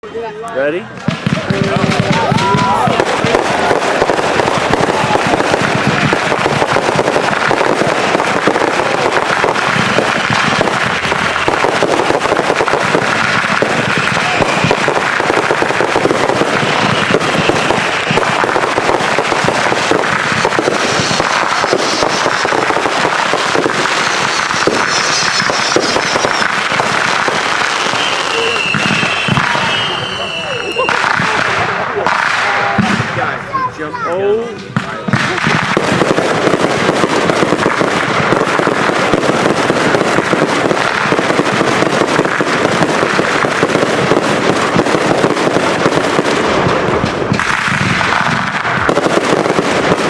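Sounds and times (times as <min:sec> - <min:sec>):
fireworks firing in barrage: 0:00.0 - 0:50.0.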